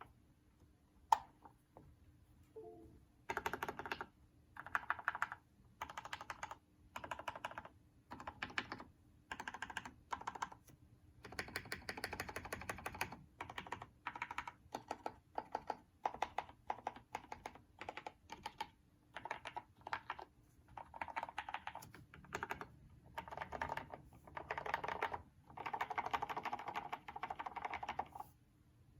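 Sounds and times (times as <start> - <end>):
typing on mechanical keyboard: 3.3 - 10.6, 11.2 - 28.2.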